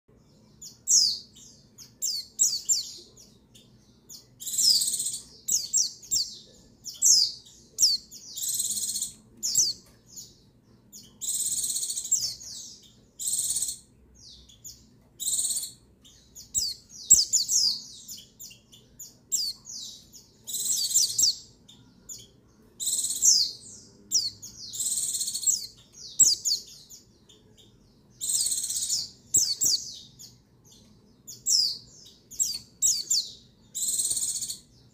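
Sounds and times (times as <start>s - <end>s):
bird rapid high chirps: 0.3s - 34.9s.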